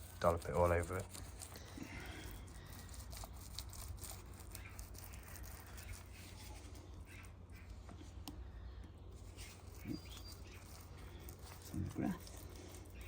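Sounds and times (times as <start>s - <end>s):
material scraping and rustling: 0.0s - 8.2s, 9.1s - 13.0s
low steady hum: 0.0s - 13.0s.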